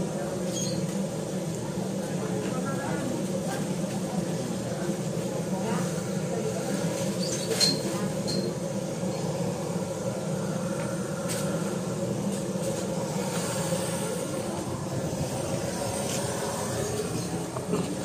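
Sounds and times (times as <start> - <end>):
market crowd hubbub: 0.0 - 18.0.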